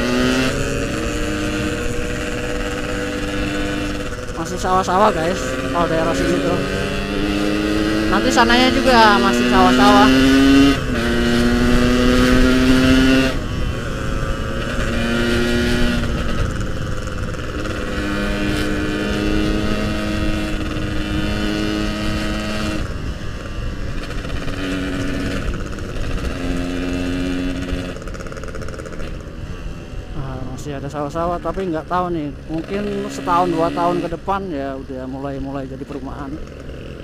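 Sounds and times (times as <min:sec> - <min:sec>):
two-stroke motorcycle engine: 0:00.0 - 0:37.0.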